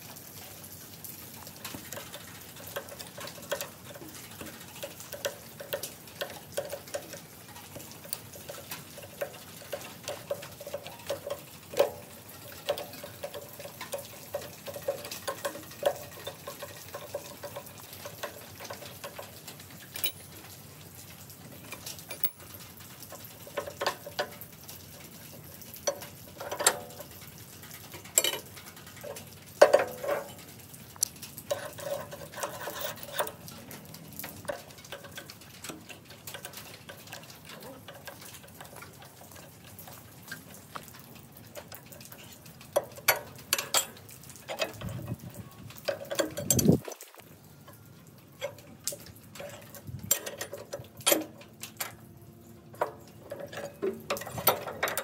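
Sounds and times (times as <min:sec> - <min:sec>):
metallic clicking and scraping: 0:00.0 - 0:55.0.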